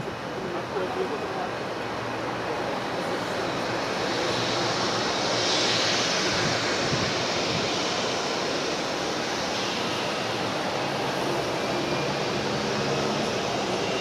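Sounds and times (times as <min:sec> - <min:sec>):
jet engines hissing and whining: 0:00.0 - 0:14.0.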